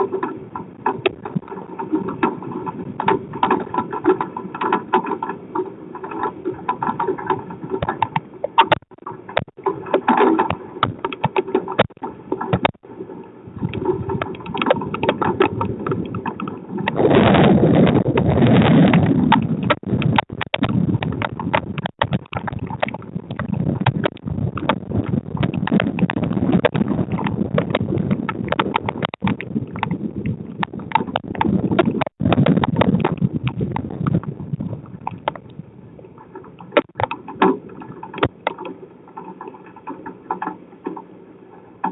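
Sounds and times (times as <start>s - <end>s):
wind and rain on microphone: 0.0s - 41.9s.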